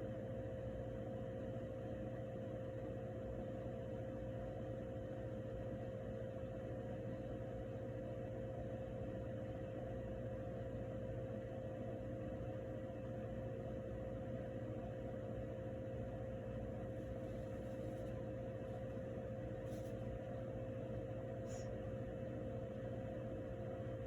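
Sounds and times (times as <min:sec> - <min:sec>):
constant hum: 0:00.0 - 0:24.0.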